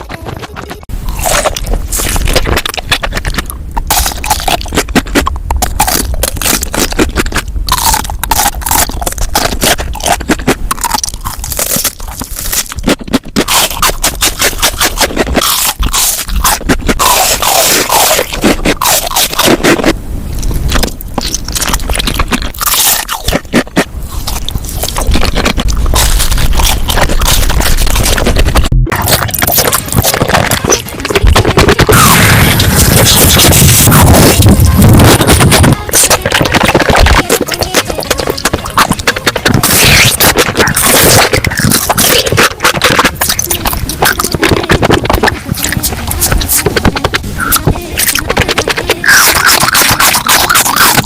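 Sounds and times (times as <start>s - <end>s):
crunching and chewing crisp food: 0.0s - 51.0s.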